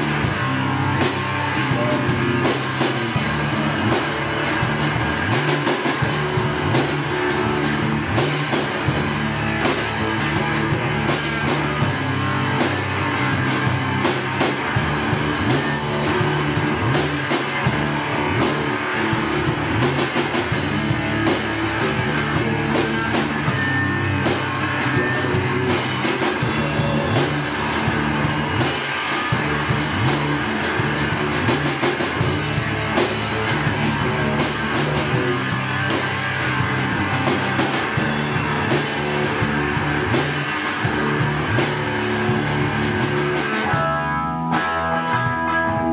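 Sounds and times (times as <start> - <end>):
drum kit beat: 0.0 - 45.9
electric guitar: 0.0 - 45.9
live rock band: 0.0 - 45.9.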